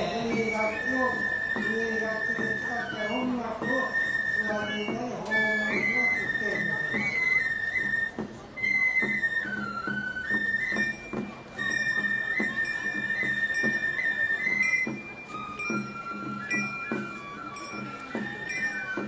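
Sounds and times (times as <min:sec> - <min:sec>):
bamboo flute melody: 0:00.0 - 0:19.0
percussion beats: 0:00.0 - 0:19.0.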